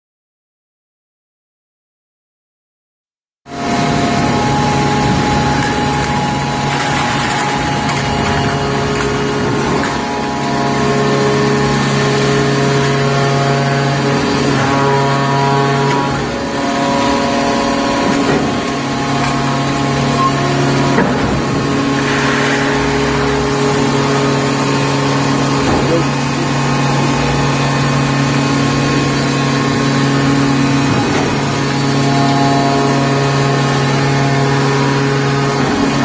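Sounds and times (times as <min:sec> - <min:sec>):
high whine: 0:03.5 - 0:34.9
hydraulic motor and pump hum: 0:03.5 - 0:36.0.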